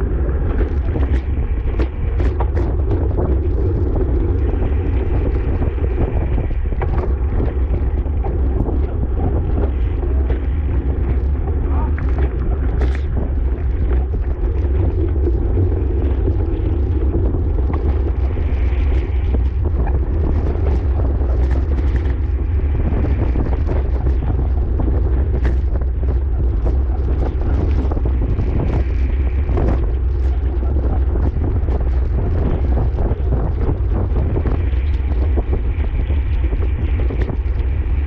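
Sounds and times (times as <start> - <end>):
wind buffeting a microphone: 0.0 - 38.0.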